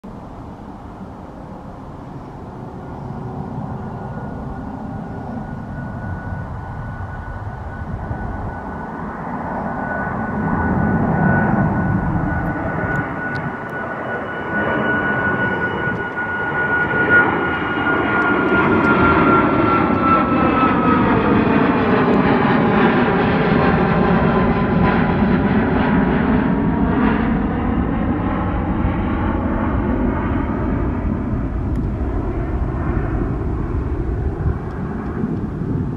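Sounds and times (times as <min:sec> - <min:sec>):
high jet whine: 0:00.0 - 0:35.9
jet engine rush: 0:00.1 - 0:35.9.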